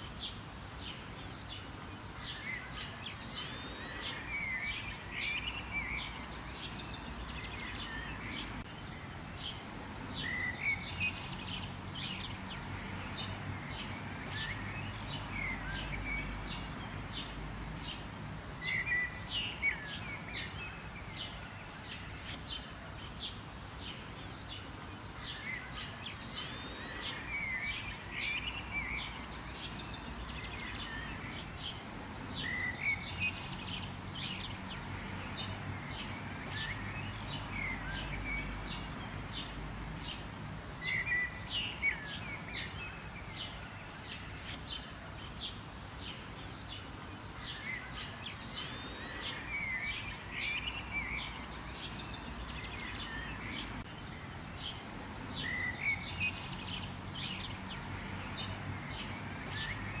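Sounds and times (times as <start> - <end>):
songbirds chirping and warbling: 0.0 - 60.0.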